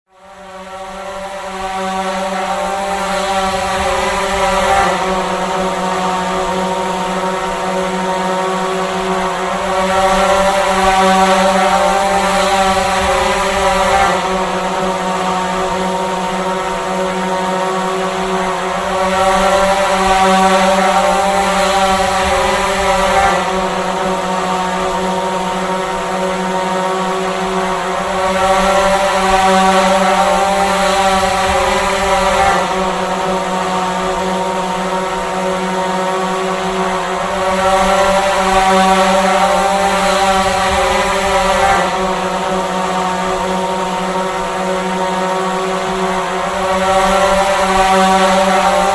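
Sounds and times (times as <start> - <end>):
drone propellers whining: 0.1 - 48.9.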